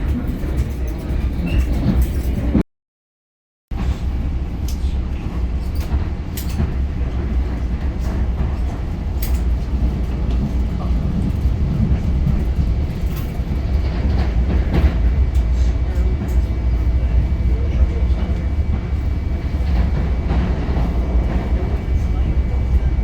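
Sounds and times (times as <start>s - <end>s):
train wheels rumbling on track: 0.0s - 2.6s, 3.7s - 23.0s.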